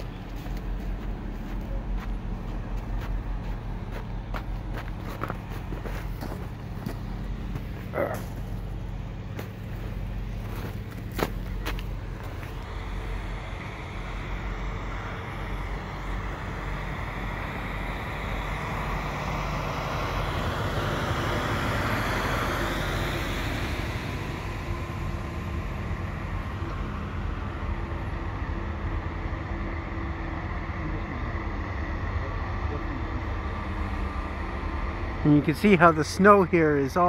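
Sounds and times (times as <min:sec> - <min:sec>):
diesel engines running: 0:00.0 - 0:37.0
dump truck driving past: 0:00.0 - 0:37.0.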